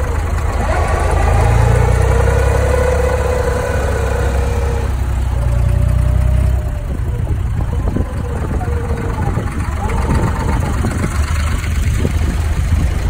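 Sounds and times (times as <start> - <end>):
boat diesel engine: 0.0 - 13.0.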